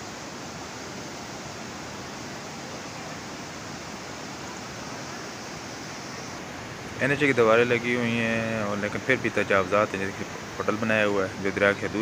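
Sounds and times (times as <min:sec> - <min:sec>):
river rushing in steady roar: 0:00.0 - 0:12.0.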